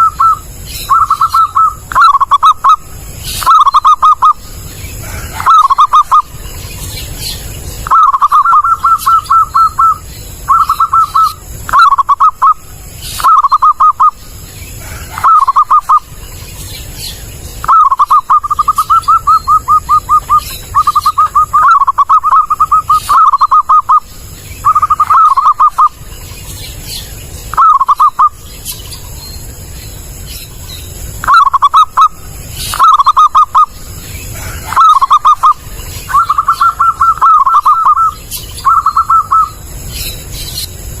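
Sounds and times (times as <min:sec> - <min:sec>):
dove cooing in trilled phrases: 0:00.0 - 0:26.2, 0:27.5 - 0:28.5, 0:31.1 - 0:39.8.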